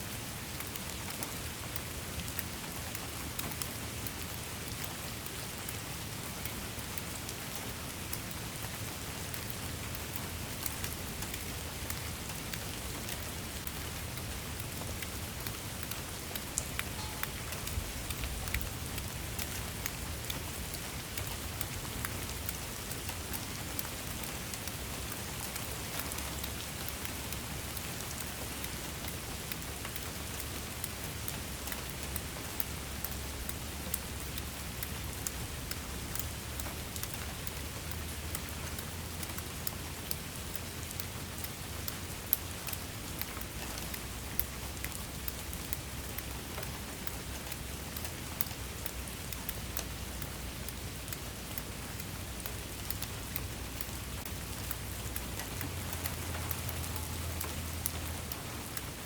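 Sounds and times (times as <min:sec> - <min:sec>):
raindrops ticking on a surface: 0:00.0 - 0:59.0
steady rain hiss: 0:00.0 - 0:59.0.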